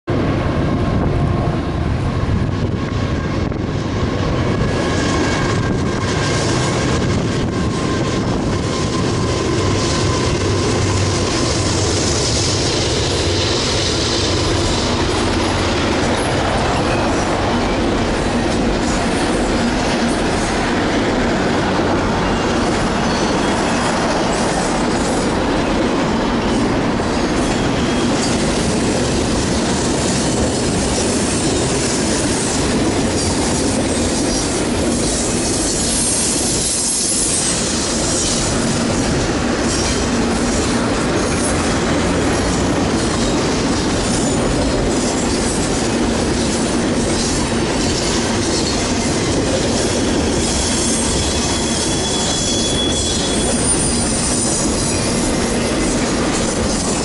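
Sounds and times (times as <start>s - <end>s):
steel wheels on rails: 0.1s - 57.0s.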